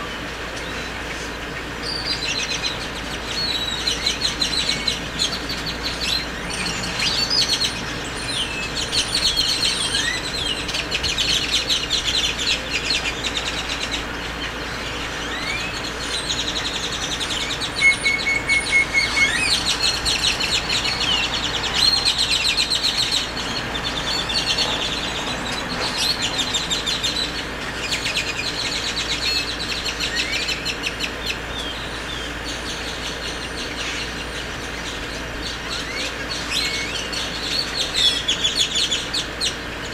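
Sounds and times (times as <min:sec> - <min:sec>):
birds chirping and calling: 0:00.1 - 0:39.9.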